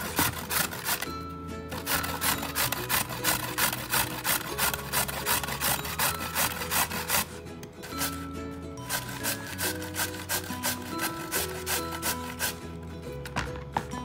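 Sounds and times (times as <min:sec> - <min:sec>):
carrot scraped on metal grater: 0:00.0 - 0:01.1, 0:01.7 - 0:12.6.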